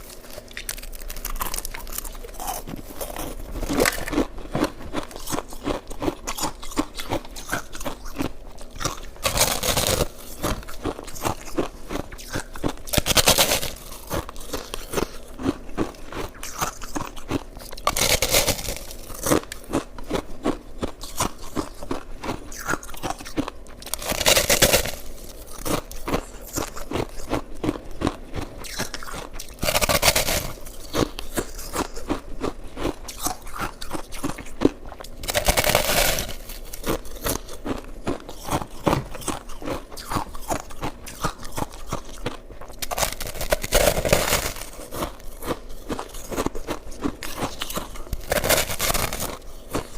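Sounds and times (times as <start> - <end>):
person chewing crunching ice: 0.0 - 49.9.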